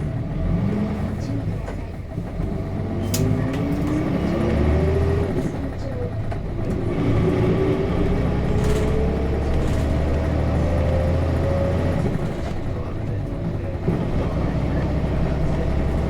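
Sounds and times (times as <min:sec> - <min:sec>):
bus diesel engine running: 0:00.0 - 0:16.0
engine whine: 0:00.0 - 0:16.0.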